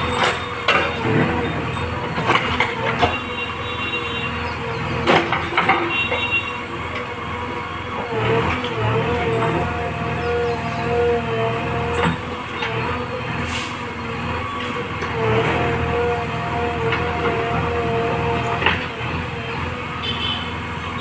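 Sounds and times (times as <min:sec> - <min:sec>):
diesel engine running: 0:00.0 - 0:21.0
hydraulic whine: 0:00.0 - 0:21.0.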